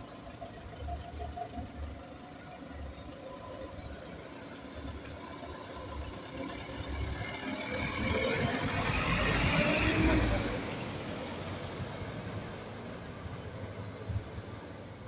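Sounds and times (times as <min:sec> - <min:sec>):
bus engine approaching: 0:00.0 - 0:15.0.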